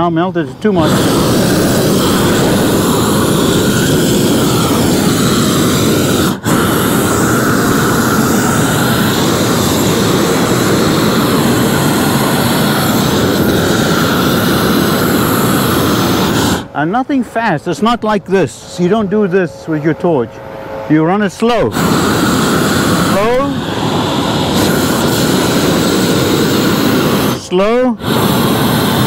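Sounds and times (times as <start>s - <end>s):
roofing torch flame rushing: 0.7s - 16.8s, 21.5s - 29.0s.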